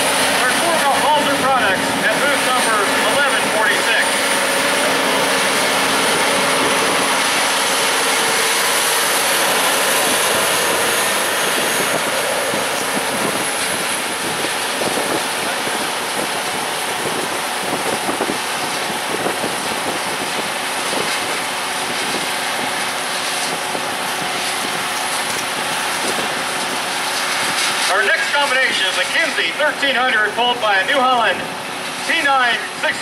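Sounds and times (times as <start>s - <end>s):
harvest machinery running: 0.0s - 33.0s.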